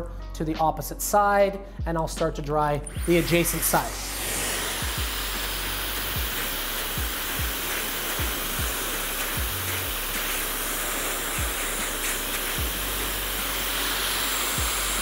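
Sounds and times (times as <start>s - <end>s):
blow dryer running: 3.0s - 15.0s.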